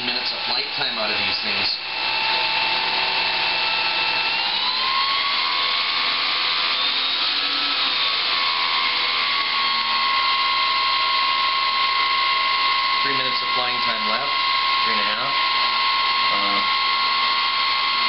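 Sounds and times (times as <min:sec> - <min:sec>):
electric motor spinning propeller: 0:00.0 - 0:18.0.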